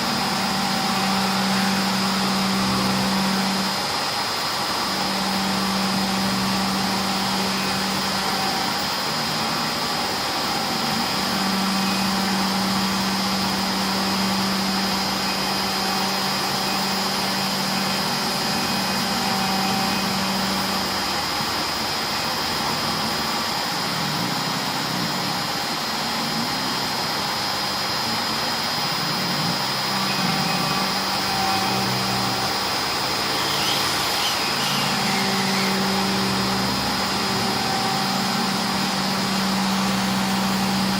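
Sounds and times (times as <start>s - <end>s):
router spindle whine: 0.0s - 40.9s
stepper motors humming: 0.0s - 40.9s.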